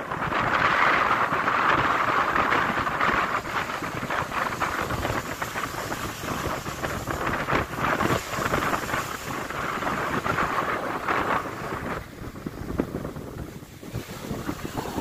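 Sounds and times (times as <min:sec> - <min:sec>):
surf breaking on gravel beach: 0:00.0 - 0:15.0
wind rumbling on microphone: 0:00.0 - 0:15.0.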